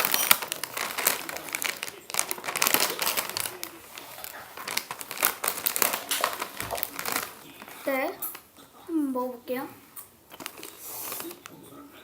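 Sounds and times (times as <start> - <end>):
plastic snack bag crinkling: 0.0 - 8.6, 9.4 - 12.0.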